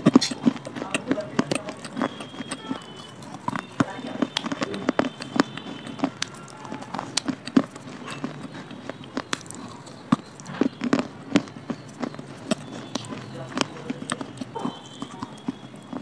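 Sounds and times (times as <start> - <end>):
chewing and crunching baked clay: 0.0 - 16.0.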